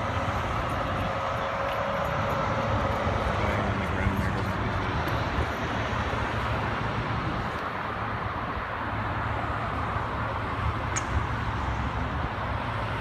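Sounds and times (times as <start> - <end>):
vehicles idling: 0.0 - 13.0.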